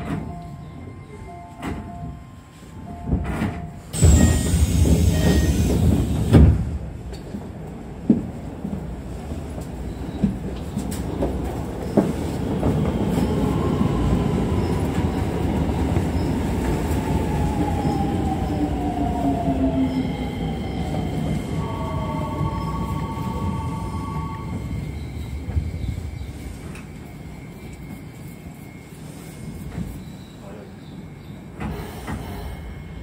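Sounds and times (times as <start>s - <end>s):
train wheels rumbling on rail: 1.4s - 33.0s.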